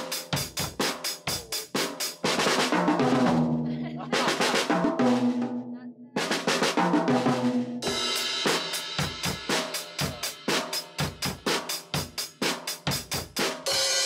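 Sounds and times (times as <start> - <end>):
drum kit playing steady beat: 0.0 - 14.0.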